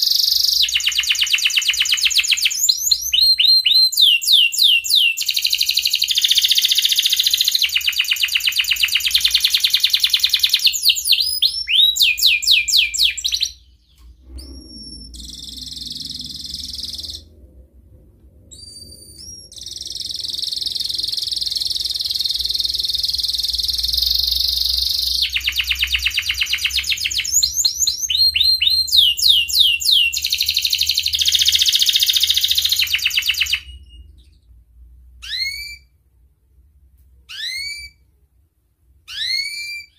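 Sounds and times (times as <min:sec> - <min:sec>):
canary singing trills: 0:00.0 - 0:17.3, 0:18.5 - 0:34.4, 0:35.2 - 0:36.0, 0:37.3 - 0:38.1, 0:39.1 - 0:39.9.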